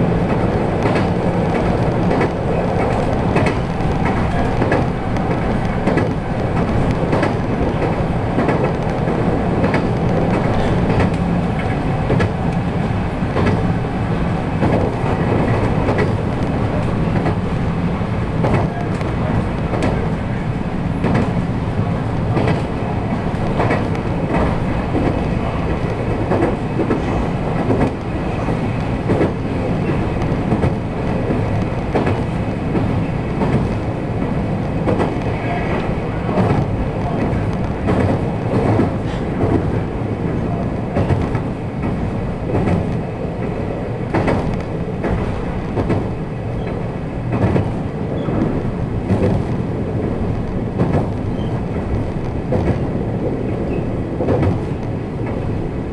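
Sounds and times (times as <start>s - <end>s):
wheels clicking over rail joints: 0.0s - 55.6s
train rumble from inside: 0.0s - 55.9s.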